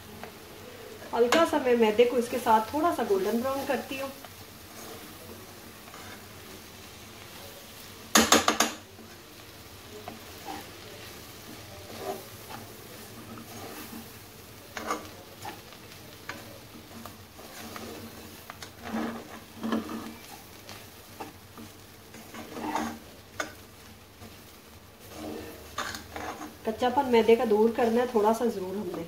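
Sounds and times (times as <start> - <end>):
light sizzle: 0.0 - 29.0
spatula scraping frying pan: 1.3 - 6.5, 10.0 - 29.0.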